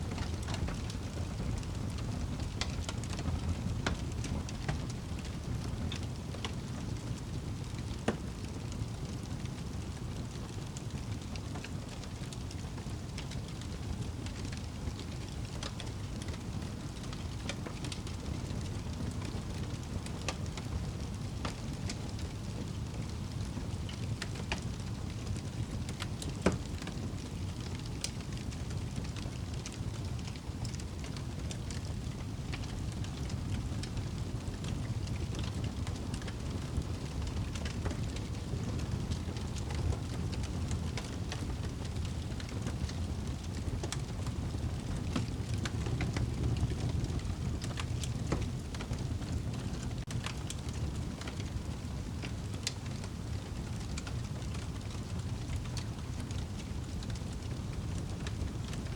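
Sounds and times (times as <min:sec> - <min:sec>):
fire burning in fireplace: 0:00.0 - 0:58.9
fire crackles and pops: 0:00.0 - 0:58.9.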